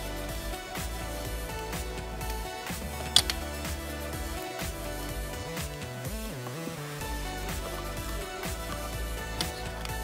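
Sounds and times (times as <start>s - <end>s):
music with beat and sliding tones: 0.0s - 10.0s.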